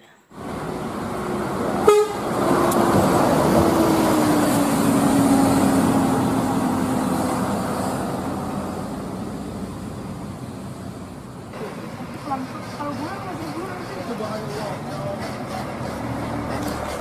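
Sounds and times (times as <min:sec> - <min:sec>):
coach bus engine drone: 0:00.3 - 0:17.0.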